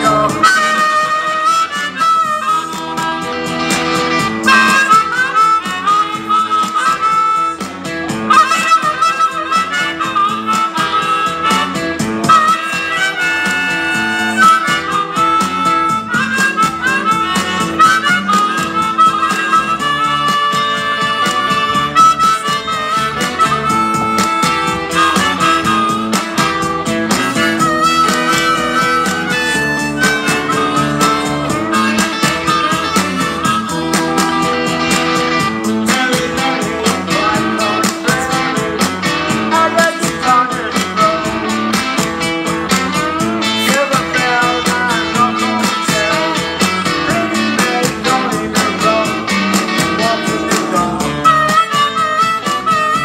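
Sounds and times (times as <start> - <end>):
amplified blues harmonica: 0.0 - 53.0
backing music with steady beat: 0.0 - 53.0.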